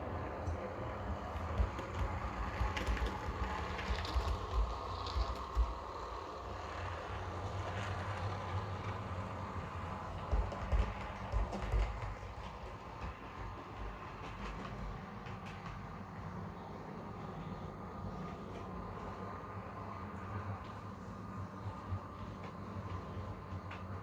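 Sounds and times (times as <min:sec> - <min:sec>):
model train humming: 0:00.0 - 0:24.0
light track clicks: 0:00.1 - 0:24.0.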